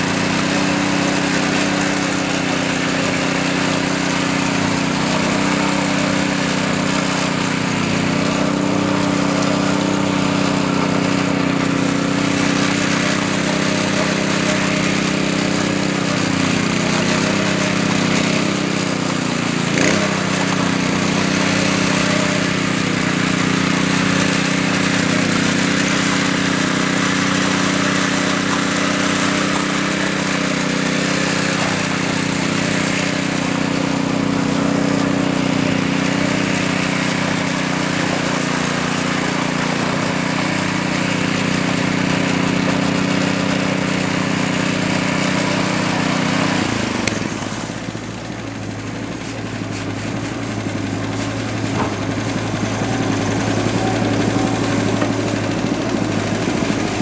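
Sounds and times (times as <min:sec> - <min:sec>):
small petrol engine running: 0:00.0 - 0:57.0.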